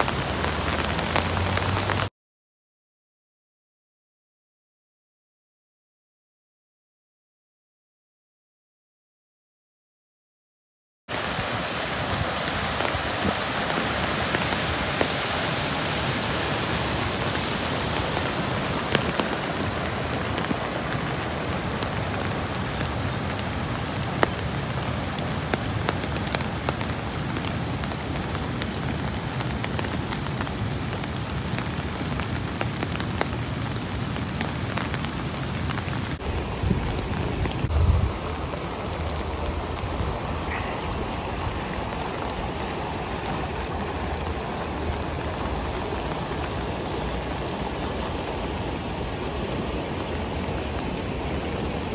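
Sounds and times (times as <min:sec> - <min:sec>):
stream rushing over rocks: 0:00.0 - 0:02.1, 0:11.1 - 0:51.9.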